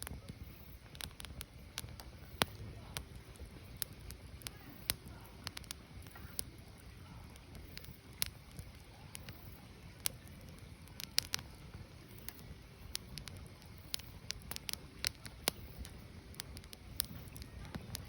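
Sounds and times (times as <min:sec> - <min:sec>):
firewood popping and crackling: 0:00.0 - 0:18.0
low steady background: 0:00.0 - 0:18.0.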